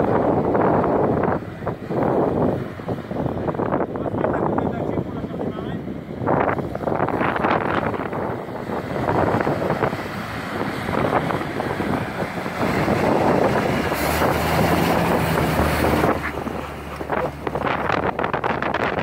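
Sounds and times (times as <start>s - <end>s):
fire truck engine running: 0.0s - 19.0s
wind buffeting microphone: 0.0s - 19.0s.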